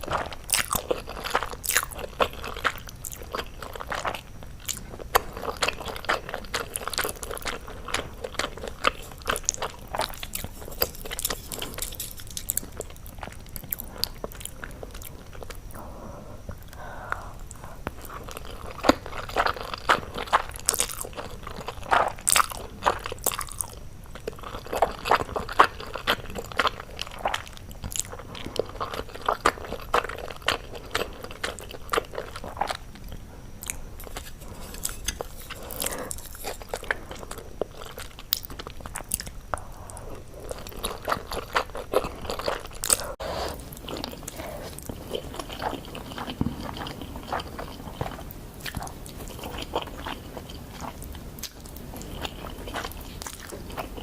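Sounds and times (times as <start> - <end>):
crunchy food chewing: 0.0 - 54.0.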